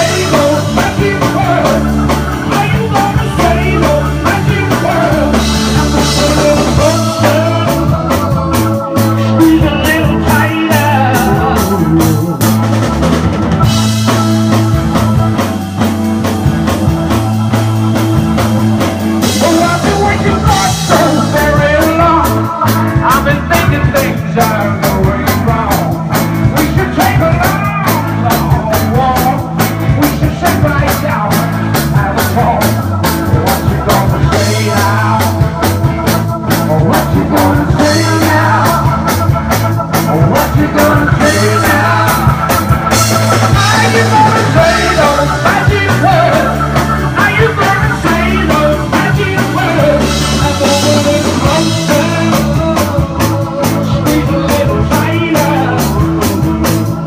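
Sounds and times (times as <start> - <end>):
rock band playing loudly: 0.0 - 57.0.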